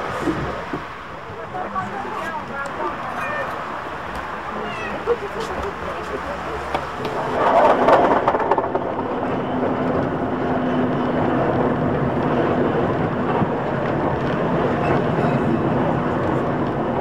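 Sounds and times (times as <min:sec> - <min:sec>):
tram passing alongside: 0:00.0 - 0:17.0
tram wheels rumbling on rails: 0:00.0 - 0:17.0.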